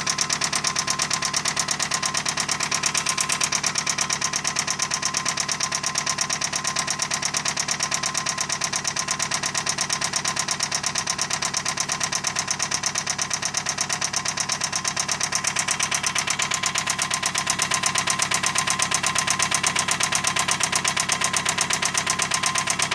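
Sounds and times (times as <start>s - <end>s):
car engine idling with knock: 0.0s - 22.9s.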